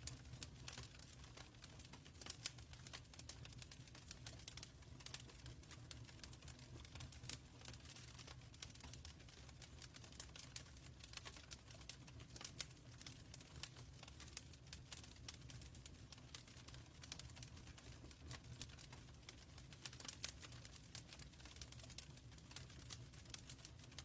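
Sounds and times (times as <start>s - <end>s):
fireplace fire crackling: 0.0s - 24.0s.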